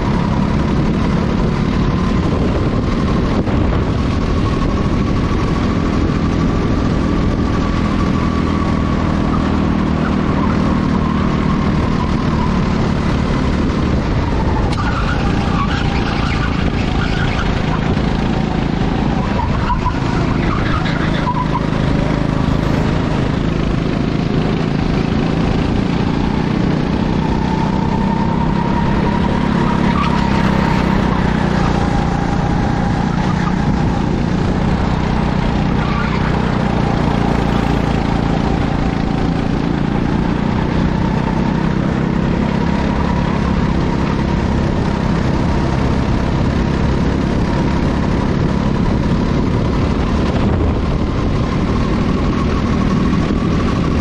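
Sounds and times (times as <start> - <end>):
kart engines racing: 0.0 - 54.0.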